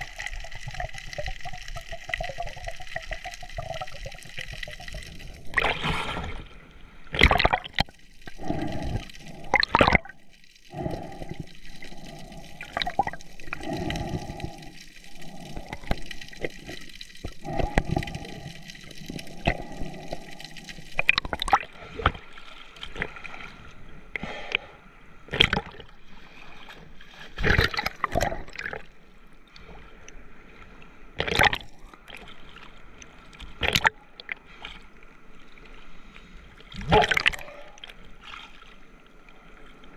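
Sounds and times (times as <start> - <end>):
seawater splashing and gurgling: 0.0 - 24.7, 25.3 - 39.9.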